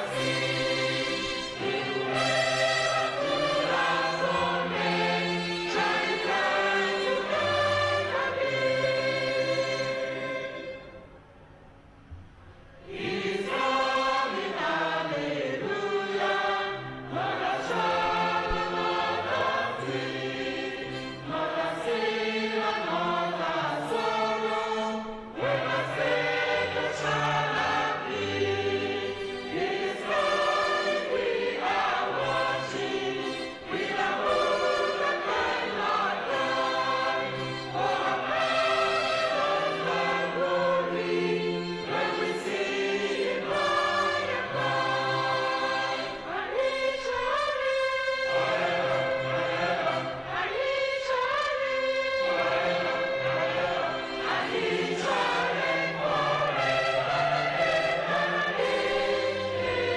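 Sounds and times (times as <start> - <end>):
choir singing in harmony: 0.0 - 11.3, 12.8 - 59.9.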